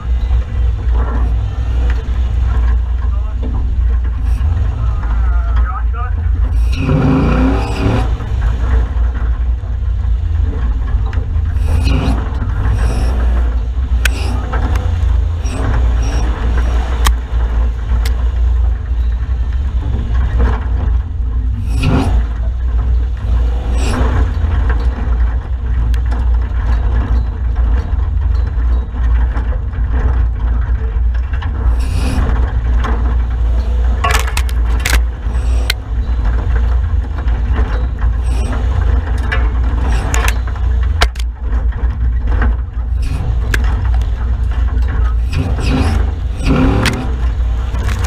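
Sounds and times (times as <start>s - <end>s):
vehicle engine rumble: 0.0s - 48.0s
vehicle knocks and rattles: 0.0s - 48.0s.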